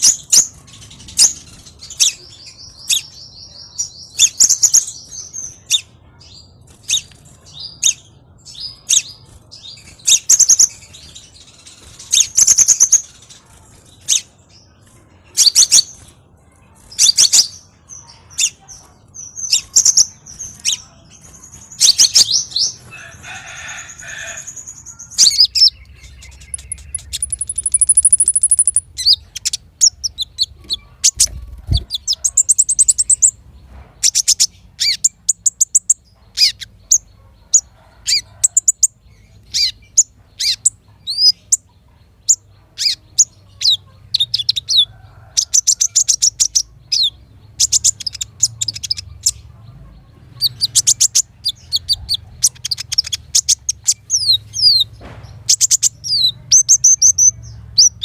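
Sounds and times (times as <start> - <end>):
high-pitched bird chirps and trills: 0.0 - 33.4, 34.0 - 58.0.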